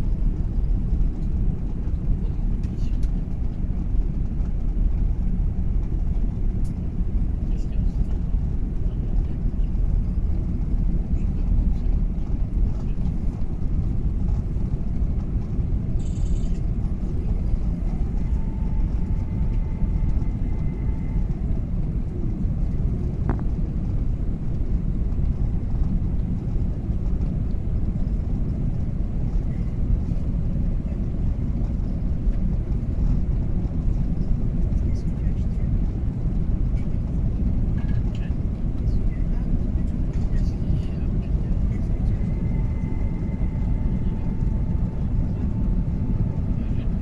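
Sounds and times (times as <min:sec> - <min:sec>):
aircraft cabin engine rumble: 0:00.0 - 0:47.0.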